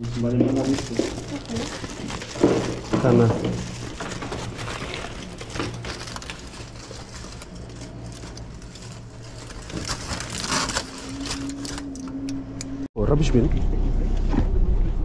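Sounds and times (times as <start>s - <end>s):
aluminium foil crinkling: 0.0s - 12.2s.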